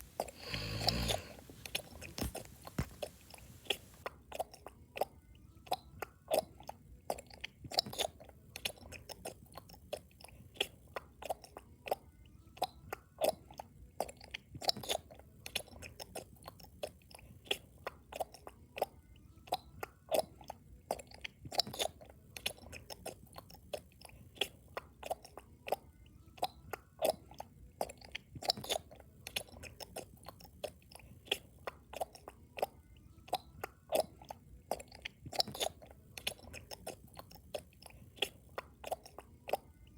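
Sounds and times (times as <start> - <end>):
person chewing loudly: 0.0 - 39.9.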